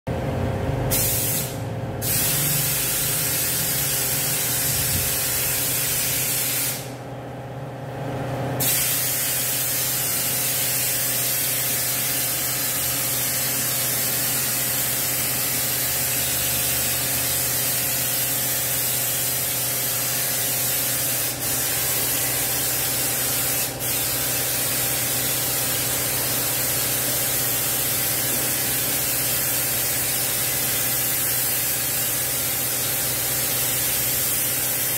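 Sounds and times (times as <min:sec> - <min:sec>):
pressure washer jet hissing: 0:00.9 - 0:06.9, 0:08.6 - 0:34.9.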